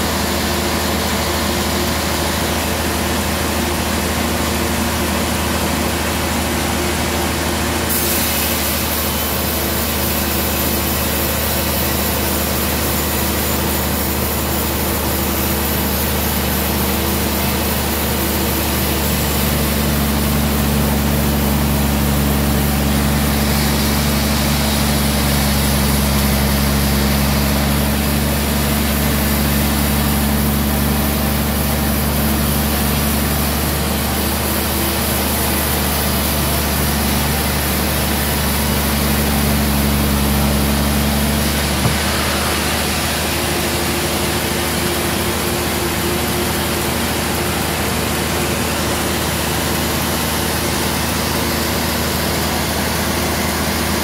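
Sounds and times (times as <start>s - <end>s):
band saw machinery humming: 0.0s - 54.0s.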